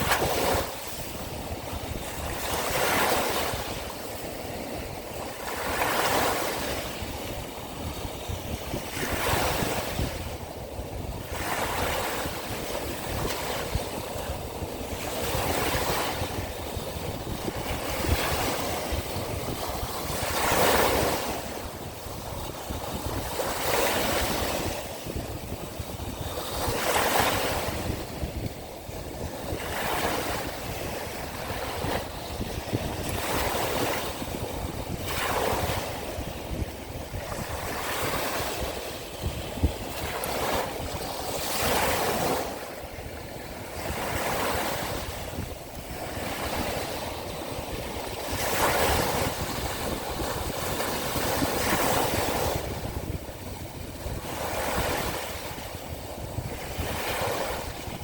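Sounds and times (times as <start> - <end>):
sea waves breaking on shore: 0.0 - 58.0
wind rumbling on microphone: 0.0 - 58.0.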